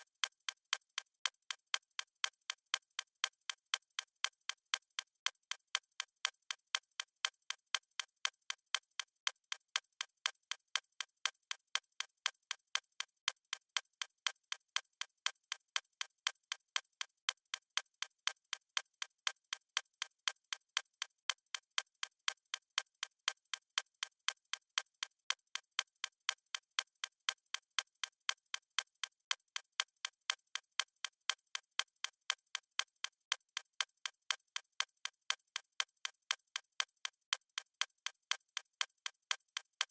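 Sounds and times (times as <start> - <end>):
fast stopwatch ticking: 0.0 - 39.9.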